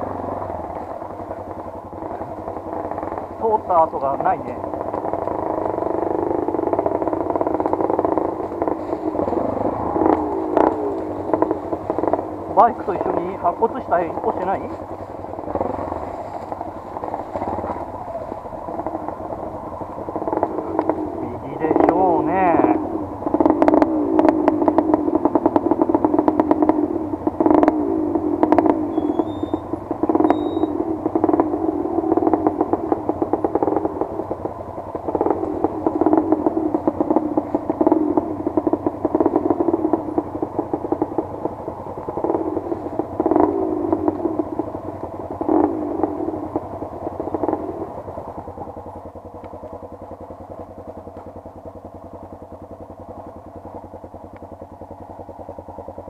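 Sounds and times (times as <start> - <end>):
motorcycle clattering over rough ground: 0.0 - 27.8, 28.4 - 56.0
motorcycle engine revving: 0.0 - 56.0.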